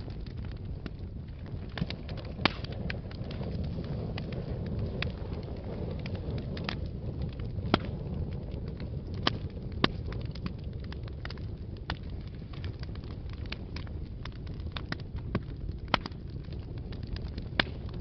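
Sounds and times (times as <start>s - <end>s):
fire crackles and pops: 0.0s - 18.0s
low rumble of flames: 0.0s - 18.0s.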